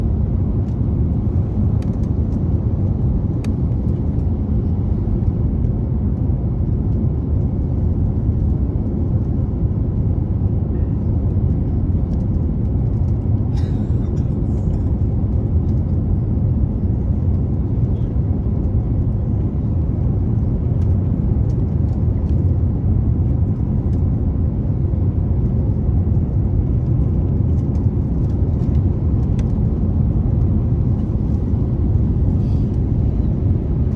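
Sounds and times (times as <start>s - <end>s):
airliner cabin engine rumble: 0.0s - 33.9s.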